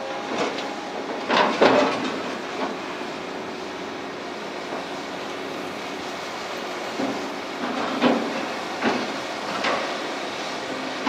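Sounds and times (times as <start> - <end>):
heavy machine running: 0.0 - 11.0.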